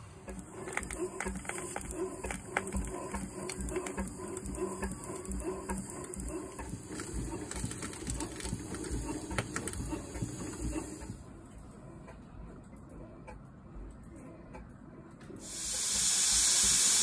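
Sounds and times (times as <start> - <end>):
steam engine rhythmic clatter: 0.0 - 11.3, 12.0 - 17.0.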